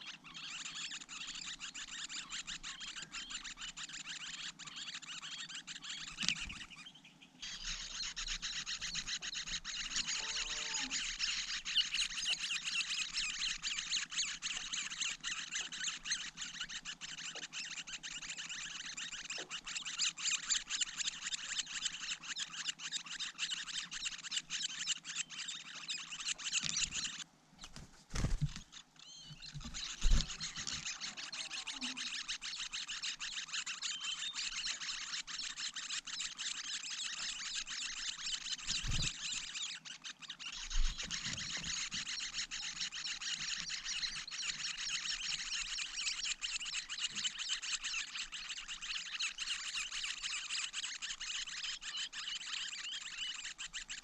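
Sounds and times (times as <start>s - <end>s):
nestlings begging rasping chorus: 0.0s - 54.0s.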